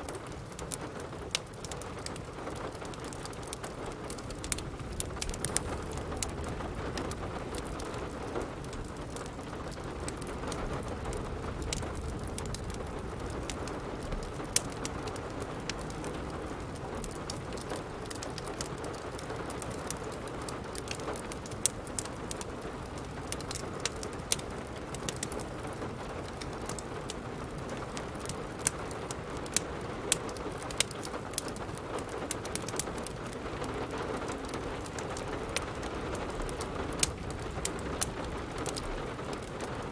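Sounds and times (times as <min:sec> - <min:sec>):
rain falling: 0:00.0 - 0:39.9
wood fire crackling: 0:00.0 - 0:39.9.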